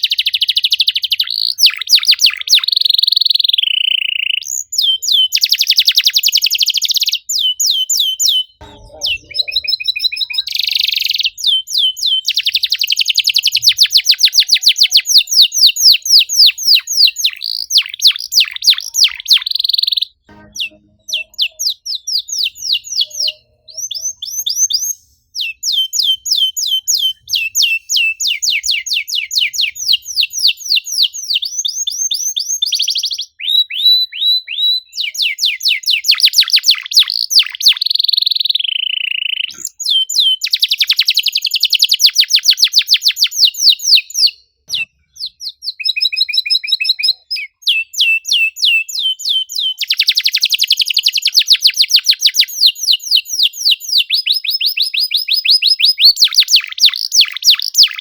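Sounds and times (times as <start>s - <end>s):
canary singing chirps and trills: 0.0s - 58.0s.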